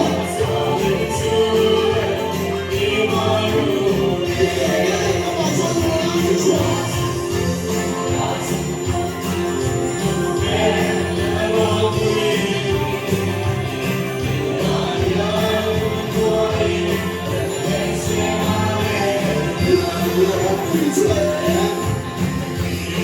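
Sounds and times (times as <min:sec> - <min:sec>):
music with singing voices: 0:00.0 - 0:23.0.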